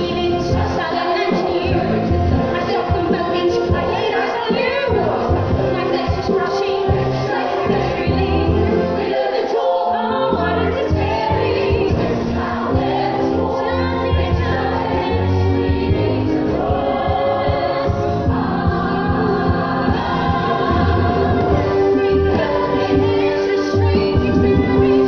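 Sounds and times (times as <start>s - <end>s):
chorus singing: 0.0s - 25.0s
orchestral accompaniment: 4.9s - 25.0s.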